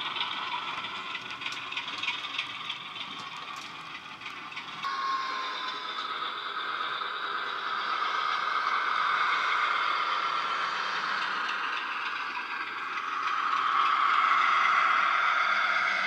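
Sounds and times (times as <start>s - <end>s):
model locomotive sound from small speaker: 0.0s - 16.0s.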